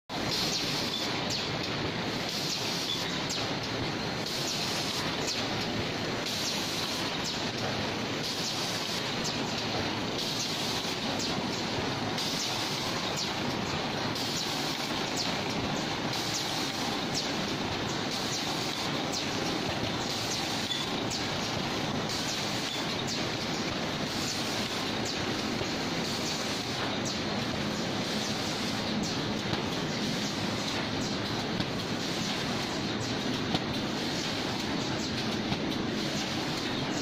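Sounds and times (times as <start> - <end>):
machine mechanical din: 0.1 - 37.0.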